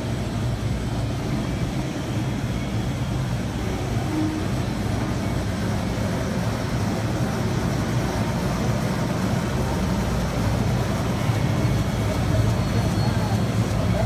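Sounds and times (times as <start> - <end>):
printing press hum and rumble: 0.0 - 14.0.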